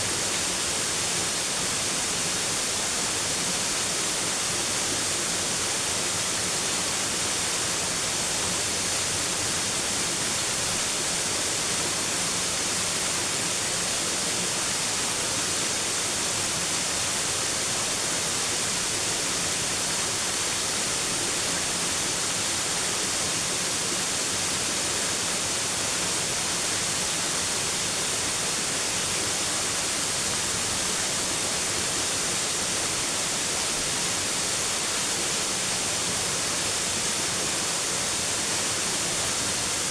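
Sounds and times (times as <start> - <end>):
rush of flowing water: 0.0 - 39.9.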